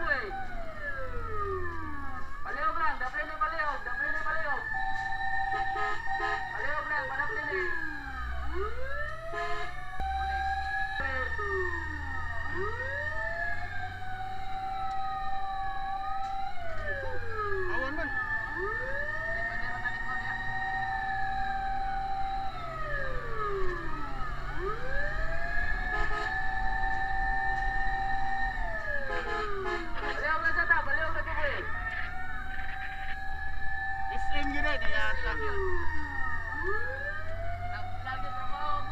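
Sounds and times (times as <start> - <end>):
fire truck sirens wailing: 0.0 - 38.9.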